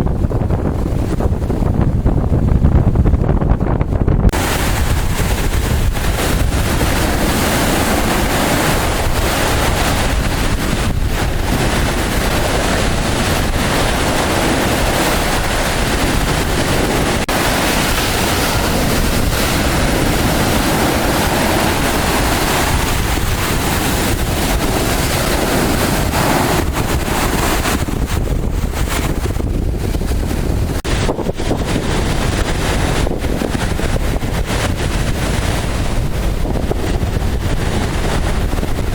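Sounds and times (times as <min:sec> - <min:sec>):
rough sea surf breaking: 0:00.0 - 0:38.9
wind buffeting microphone: 0:00.0 - 0:38.9.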